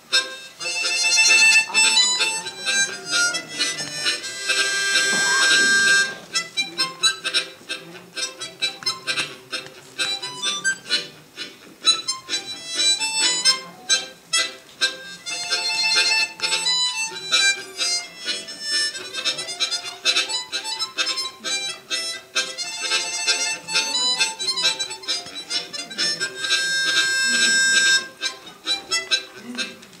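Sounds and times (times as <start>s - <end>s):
harmonica melody: 0.0s - 30.0s.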